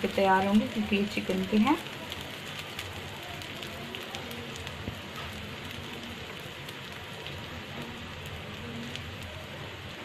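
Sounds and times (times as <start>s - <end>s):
patties sizzling in hot oil: 0.0s - 10.0s.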